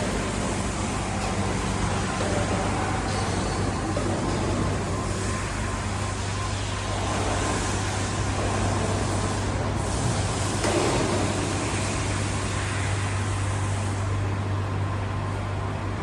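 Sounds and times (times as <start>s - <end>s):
factory machinery humming: 0.0s - 16.0s.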